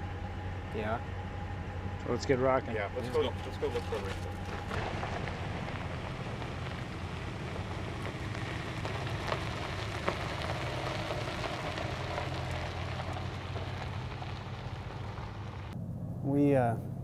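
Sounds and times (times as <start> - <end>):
low engine hum: 0.0 - 17.0
road and tyre noise: 0.0 - 17.0.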